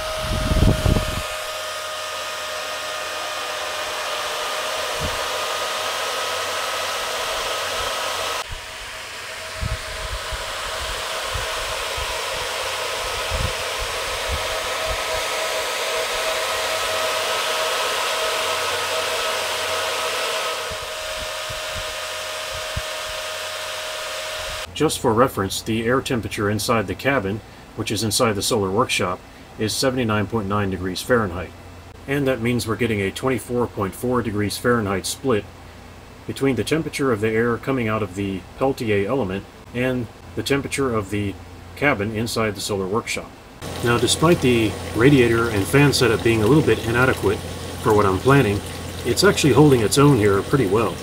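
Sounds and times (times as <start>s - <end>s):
cooling fans whirring: 0.0s - 51.0s.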